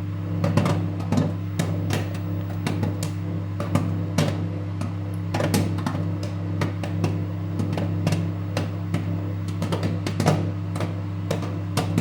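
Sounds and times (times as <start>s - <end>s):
microwave oven humming: 0.0s - 12.0s
popcorn popping: 0.0s - 12.0s.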